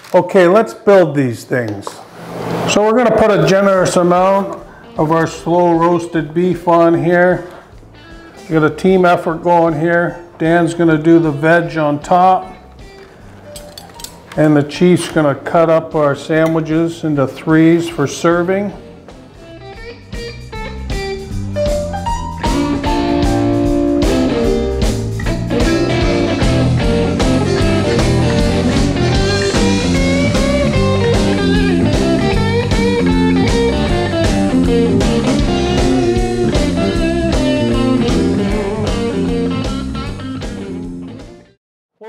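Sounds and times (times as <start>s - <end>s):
blues electric guitar music: 2.7s - 17.0s, 17.9s - 41.6s.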